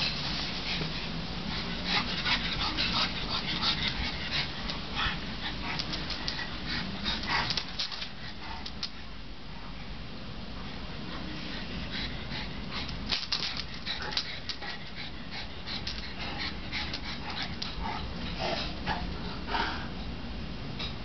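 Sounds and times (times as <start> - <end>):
dogs playing: 0.0 - 9.8, 10.6 - 21.0.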